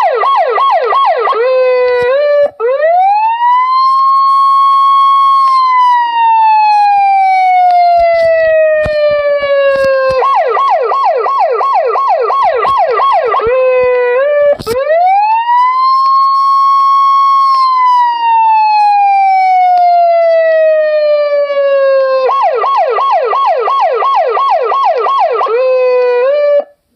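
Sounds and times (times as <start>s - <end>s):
electronic police siren: 0.0s - 26.8s.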